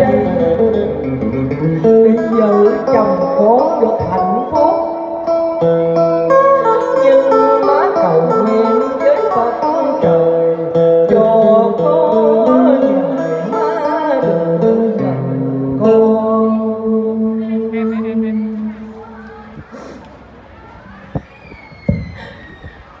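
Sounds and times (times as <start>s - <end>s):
slow plucked guitar melody: 0.0s - 21.2s.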